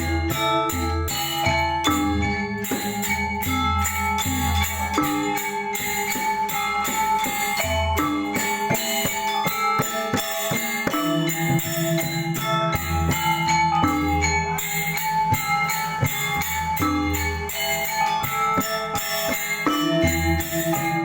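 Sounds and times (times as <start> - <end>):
metallophones ringing struck notes: 0.0 - 21.0.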